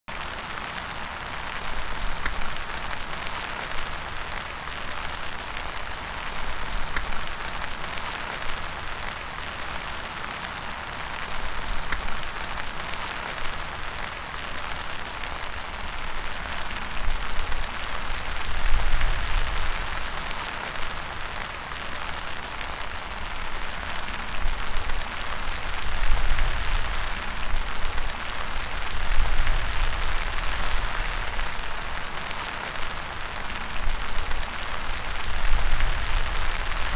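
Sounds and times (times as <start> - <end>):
rain pattering on leaves: 0.1 - 36.9.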